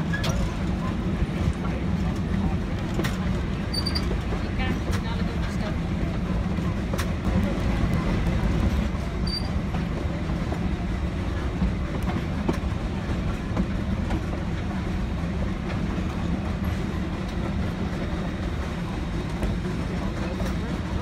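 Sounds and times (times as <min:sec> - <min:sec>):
train car rumbling on track: 0:00.0 - 0:21.0.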